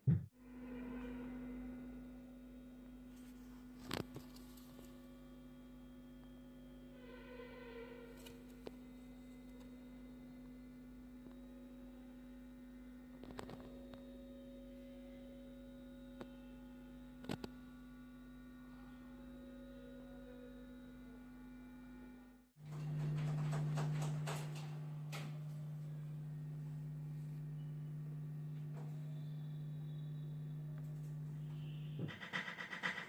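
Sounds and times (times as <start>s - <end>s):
low electronic hum: 0.0s - 32.3s.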